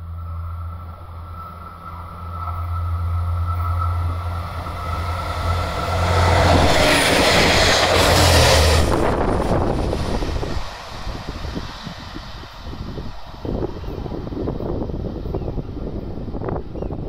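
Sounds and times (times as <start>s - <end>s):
diesel railcar engine hum: 0.0s - 17.0s
wheel and rail noise: 0.0s - 17.0s.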